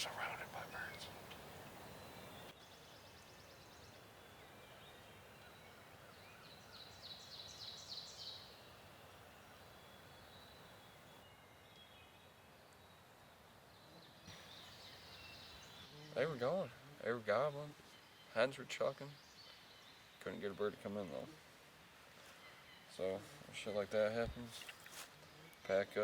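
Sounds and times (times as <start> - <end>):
songbird calls: 0.0 - 21.6, 22.2 - 26.0
steady low hiss: 0.0 - 26.0.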